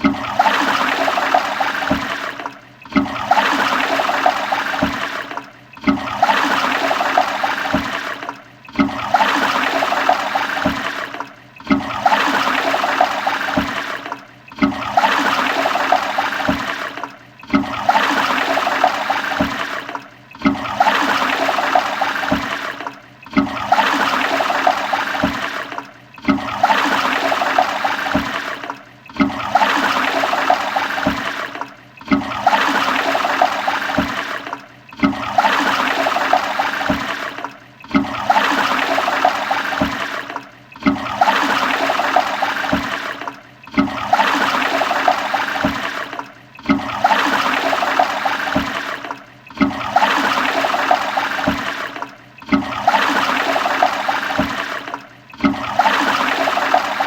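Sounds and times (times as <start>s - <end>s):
toilet flushing: 0.0s - 57.0s.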